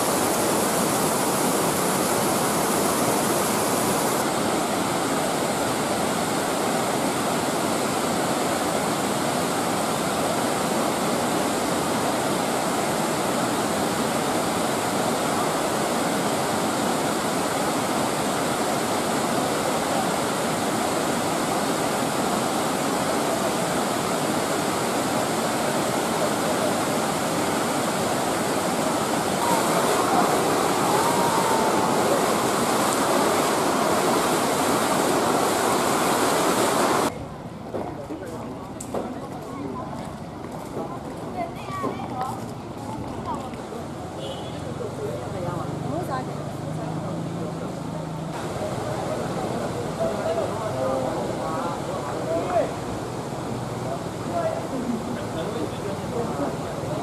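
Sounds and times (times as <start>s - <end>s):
waterfall rushing over rocks: 0.0s - 37.2s, 46.0s - 57.0s.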